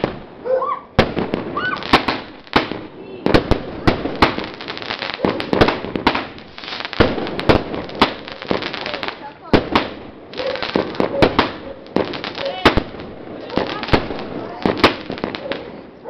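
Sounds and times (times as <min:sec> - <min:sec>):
fireworks bursting with bangs: 0:00.0 - 0:16.0
fireworks crackling: 0:00.0 - 0:16.0.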